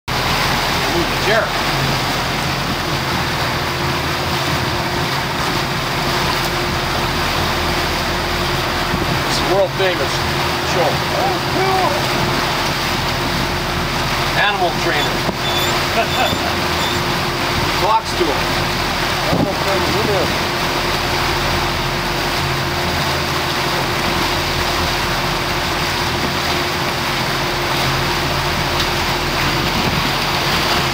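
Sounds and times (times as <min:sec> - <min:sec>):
churning wake rushing: 0:00.1 - 0:30.9
motorboat engine humming: 0:00.1 - 0:30.9.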